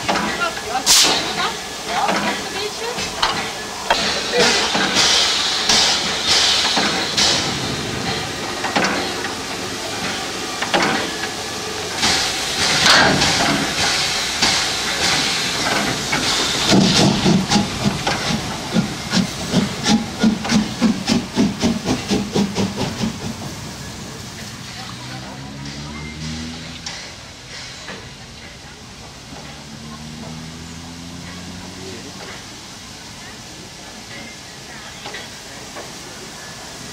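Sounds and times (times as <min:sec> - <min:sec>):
steam hissing from locomotive: 0:00.0 - 0:36.9
steam locomotive chuffing: 0:00.0 - 0:36.9.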